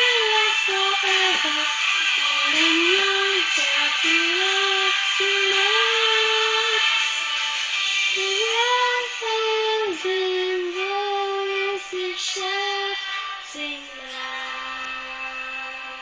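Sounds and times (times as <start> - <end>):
boy singing slow melody: 0.0 - 7.4, 8.1 - 16.0.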